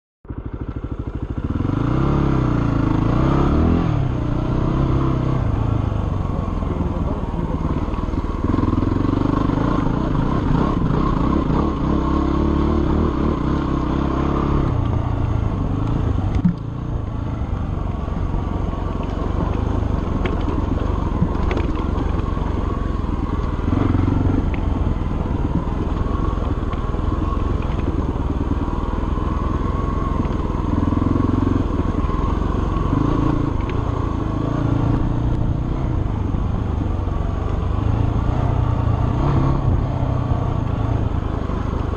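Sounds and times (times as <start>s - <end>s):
dirt bike engine revving: 1.4s - 5.7s, 6.6s - 41.0s.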